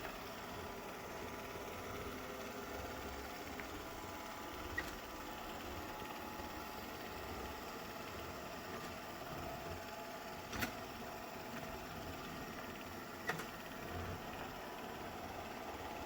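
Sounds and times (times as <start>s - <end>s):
robot vacuum humming: 0.0s - 16.0s.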